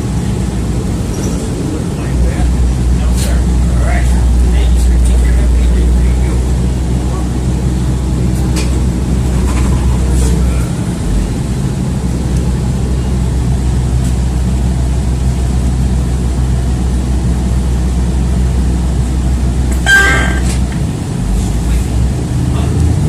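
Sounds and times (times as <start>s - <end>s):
bus engine drone: 0.0s - 23.0s
road noise: 0.0s - 23.0s.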